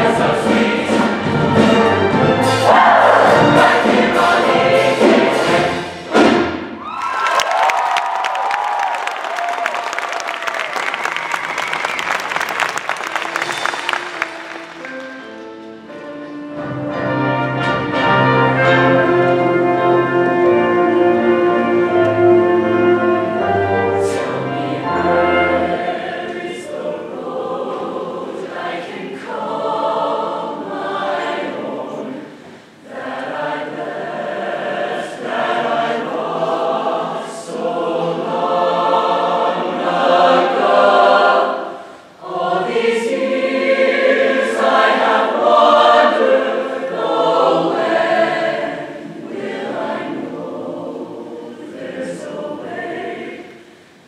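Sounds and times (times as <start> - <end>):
choir singing in harmony: 0.0 - 6.8, 13.4 - 54.0.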